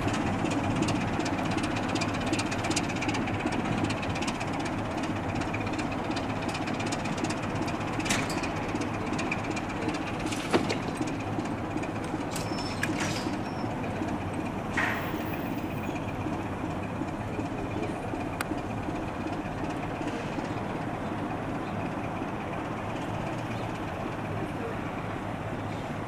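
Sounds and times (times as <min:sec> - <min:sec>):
diesel locomotive engine rumble: 0:00.0 - 0:26.0.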